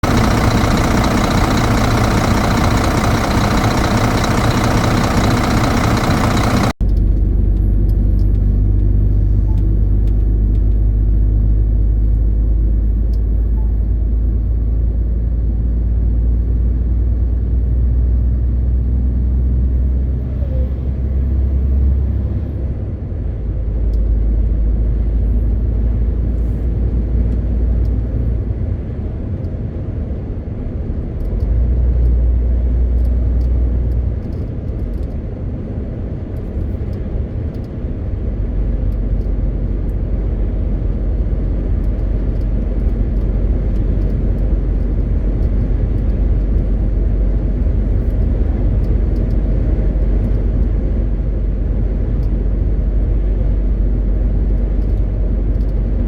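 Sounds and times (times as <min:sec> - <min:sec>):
diesel truck engine drone: 0:00.0 - 0:56.0.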